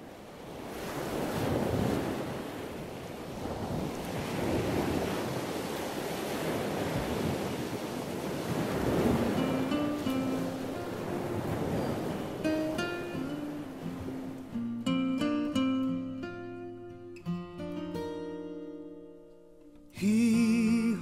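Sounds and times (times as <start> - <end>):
ocean surf washing in: 0.0 - 18.6.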